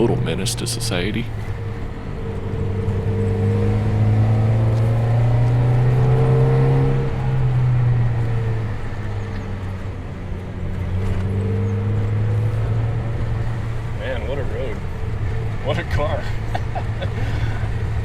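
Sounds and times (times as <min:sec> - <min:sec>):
car engine under throttle: 0:00.0 - 0:18.0
road noise: 0:00.0 - 0:18.0.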